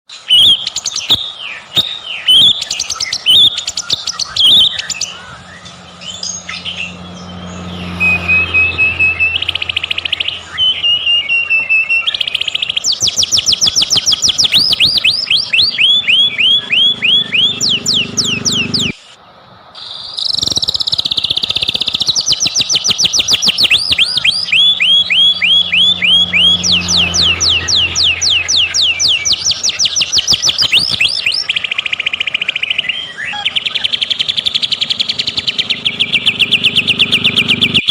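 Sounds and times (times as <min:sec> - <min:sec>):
bird singing rising whistles: 0:00.1 - 0:19.1, 0:19.8 - 0:37.9.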